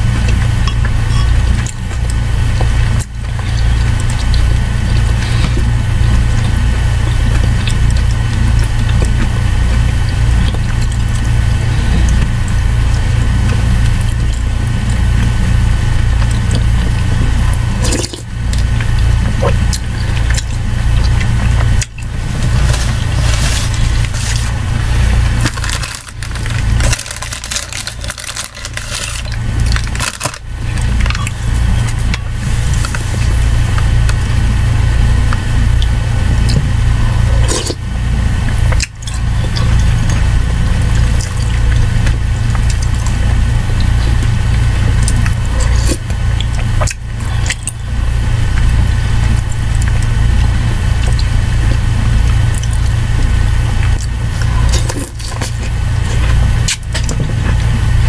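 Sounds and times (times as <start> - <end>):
loud low hum: 0.0 - 58.0
mouth eating noises: 0.0 - 58.0.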